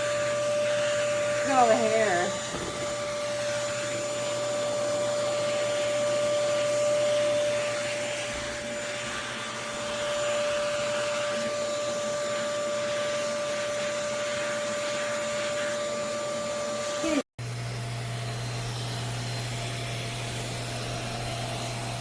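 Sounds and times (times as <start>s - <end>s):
grooming vacuum whining: 0.0s - 22.0s.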